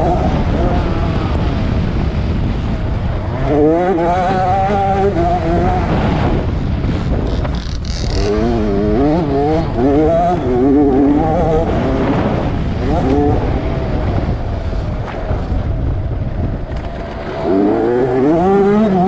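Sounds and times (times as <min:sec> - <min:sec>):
motocross bike engine revving: 0:00.0 - 0:15.4, 0:16.8 - 0:19.0
wind noise on microphone: 0:00.0 - 0:19.0.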